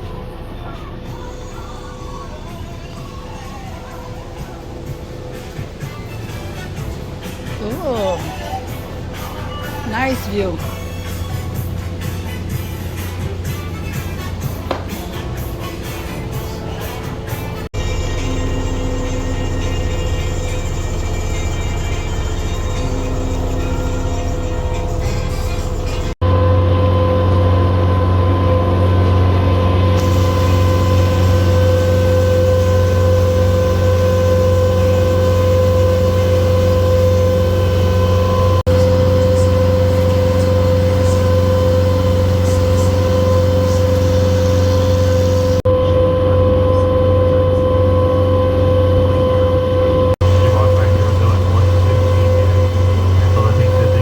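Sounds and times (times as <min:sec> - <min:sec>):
boat engine hum: 0:00.0 - 0:54.0
steady engine whine: 0:00.0 - 0:54.0.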